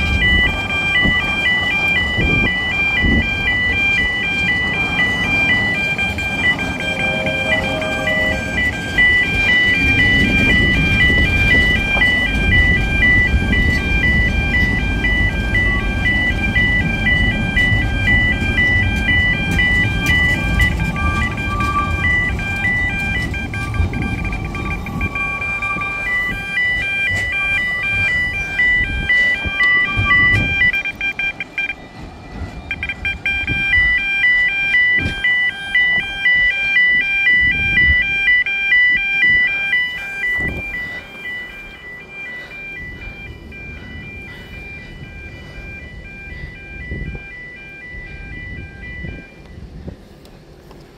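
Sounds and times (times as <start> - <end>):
level crossing alarm pulsing: 0.0 - 50.8
train carriages rumbling: 0.0 - 50.9.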